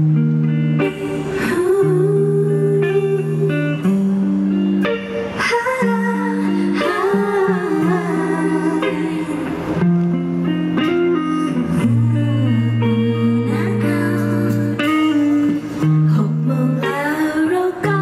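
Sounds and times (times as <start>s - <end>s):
electric guitar: 0.0s - 18.0s
live band playing pop: 0.0s - 18.0s.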